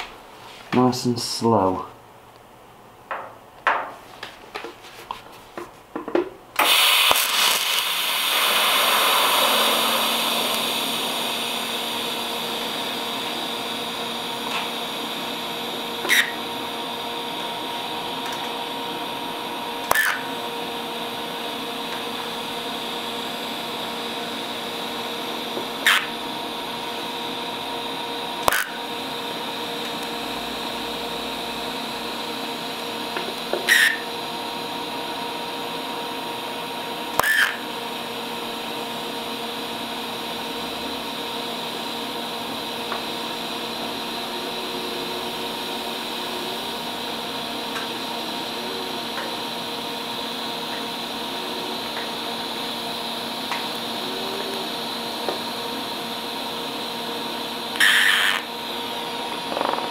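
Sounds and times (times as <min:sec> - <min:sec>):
welding arc hissing and buzzing: 0:06.6 - 0:59.9.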